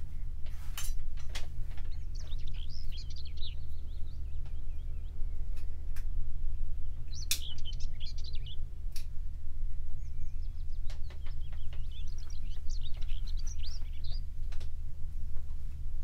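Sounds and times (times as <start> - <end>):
small birds chirping and twittering: 0.0 - 16.0
steady low hum: 0.0 - 16.0.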